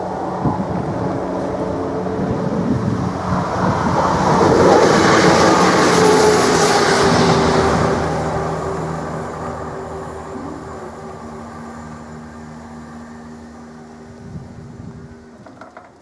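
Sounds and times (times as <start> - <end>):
diesel train passing: 0.0 - 15.7.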